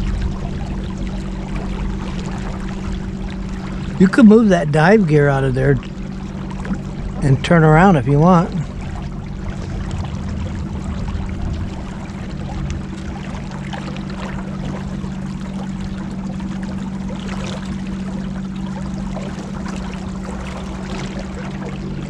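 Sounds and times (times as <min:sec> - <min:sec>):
motorboat engine running: 0:00.0 - 0:22.0
water splashing along hull: 0:00.0 - 0:22.0.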